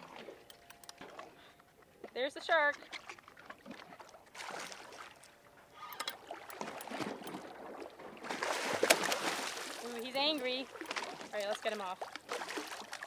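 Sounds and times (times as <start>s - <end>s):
water sloshing against boat: 0.0s - 13.0s.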